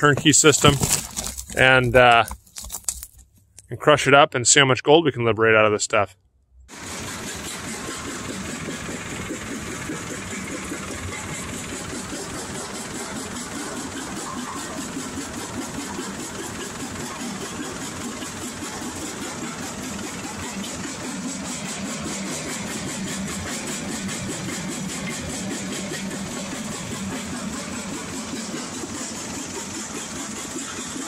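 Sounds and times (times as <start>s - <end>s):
jaw crusher crushing ore: 0.7s - 1.8s, 6.7s - 31.0s.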